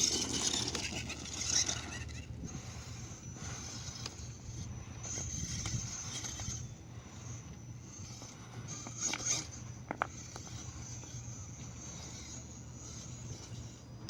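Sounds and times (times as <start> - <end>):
electric motor whining: 0.0 - 14.0
light clicks and scrapes: 0.0 - 14.0.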